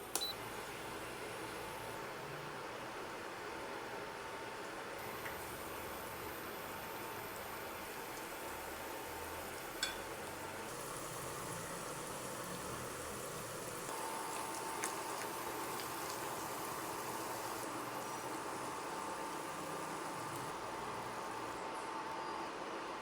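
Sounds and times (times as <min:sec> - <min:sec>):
food bubbling on a stove: 0:00.5 - 0:21.6.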